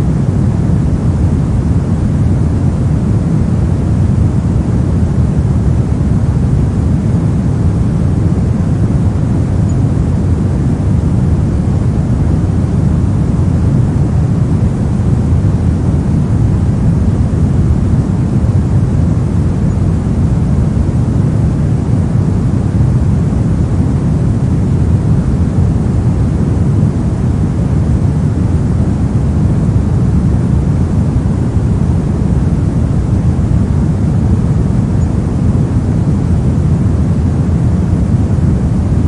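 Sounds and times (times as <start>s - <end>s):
pink noise: 0.0s - 39.0s.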